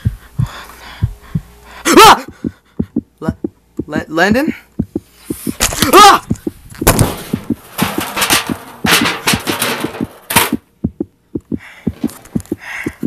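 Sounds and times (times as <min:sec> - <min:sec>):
hurried footsteps: 0:00.0 - 0:13.0.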